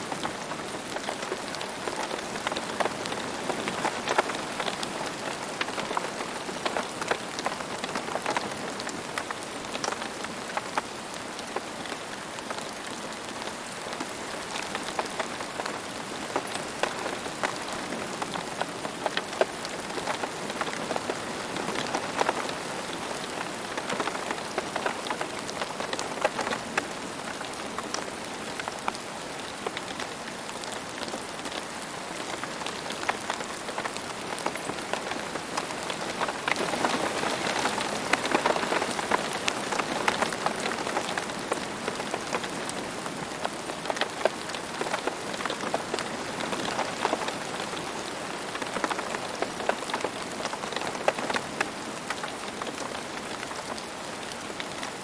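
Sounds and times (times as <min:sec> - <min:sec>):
raindrops pattering: 0:00.0 - 0:55.0.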